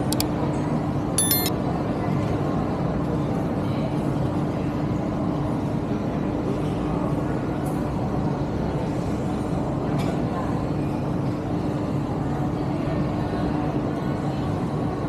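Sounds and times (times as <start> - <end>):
low hum and wash of noise: 0.0 - 15.0.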